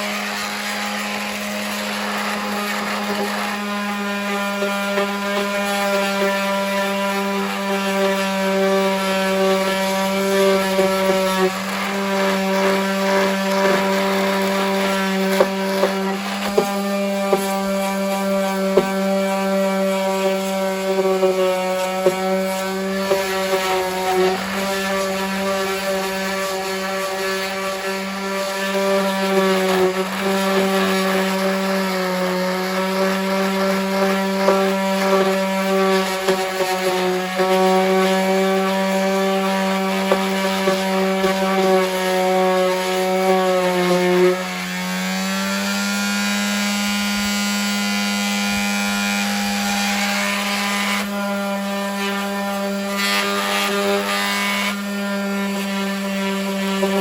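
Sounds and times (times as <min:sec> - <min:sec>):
electric palm sander humming: 0:00.0 - 0:57.0
sander pad scratching body filler: 0:00.0 - 0:57.0.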